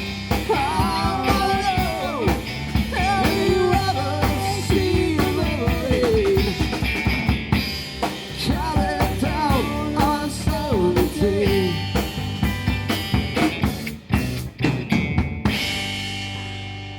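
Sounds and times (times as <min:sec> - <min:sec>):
live band music: 0:00.0 - 0:16.9.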